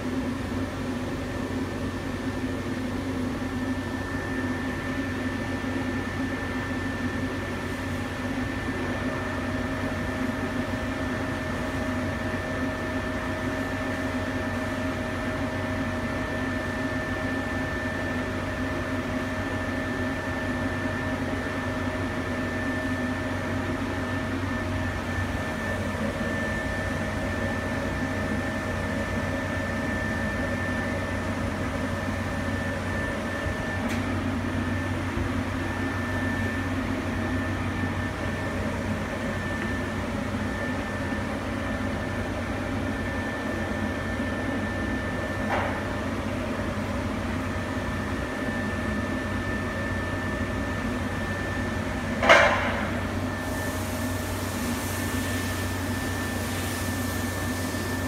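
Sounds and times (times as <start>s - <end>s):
welding machine electrical hum: 0.0s - 58.0s.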